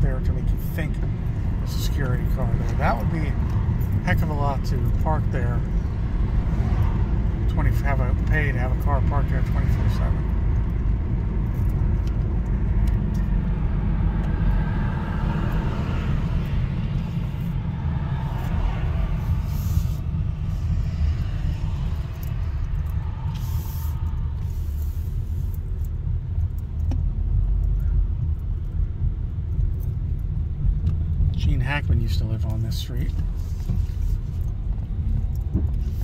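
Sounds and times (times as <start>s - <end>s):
car engine: 0.0s - 36.0s
tyre and road noise: 0.0s - 36.0s.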